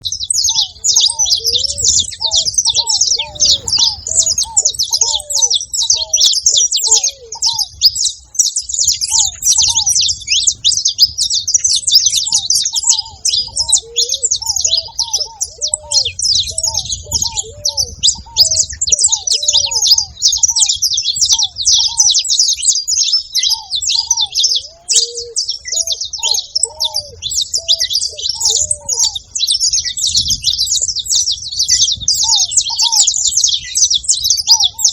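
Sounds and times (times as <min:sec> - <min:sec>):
dove cooing: 0:00.0 - 0:34.9
finch singing high chirps: 0:00.0 - 0:34.9.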